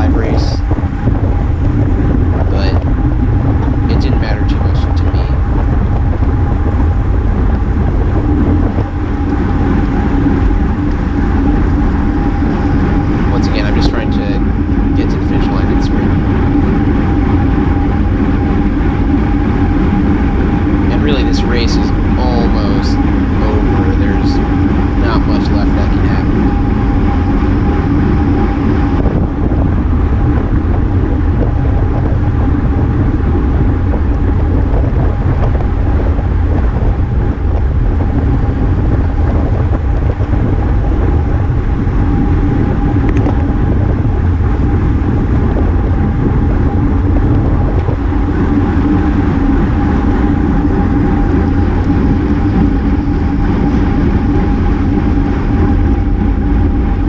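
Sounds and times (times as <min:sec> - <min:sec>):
bicycle road noise: 0:00.0 - 0:57.0
constant hum: 0:00.0 - 0:57.0
wind rush: 0:00.0 - 0:57.0.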